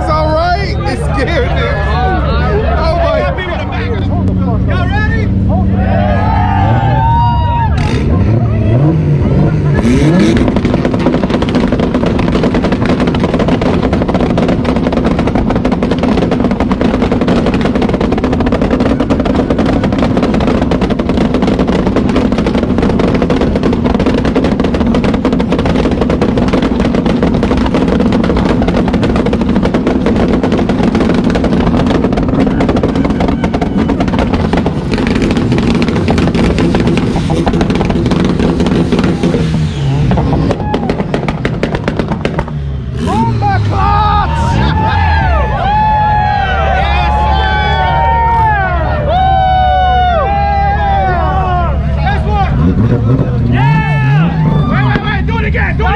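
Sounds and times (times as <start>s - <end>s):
car engine revving: 3.1s - 46.4s, 50.8s - 55.9s.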